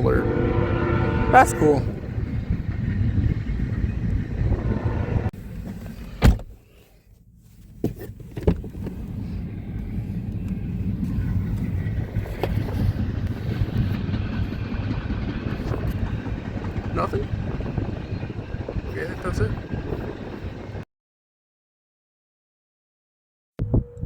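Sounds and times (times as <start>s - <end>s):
vehicle rumble: 0.0s - 20.8s.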